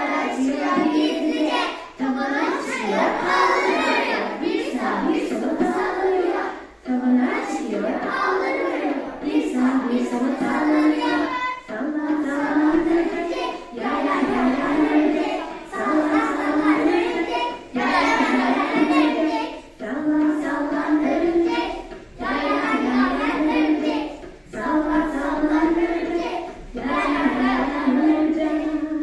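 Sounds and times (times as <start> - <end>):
children singing: 0.0 - 29.0.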